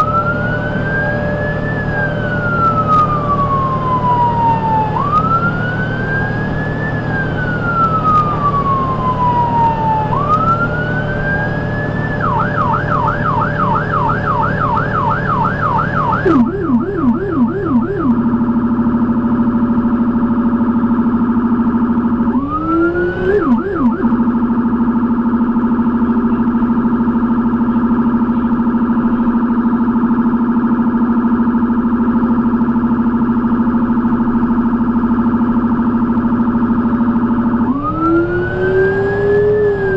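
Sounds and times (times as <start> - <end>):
ambulance siren: 0.0 - 39.9.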